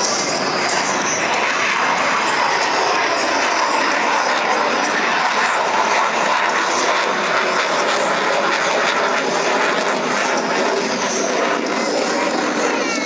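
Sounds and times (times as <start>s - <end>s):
jet flying over: 0.0s - 13.0s.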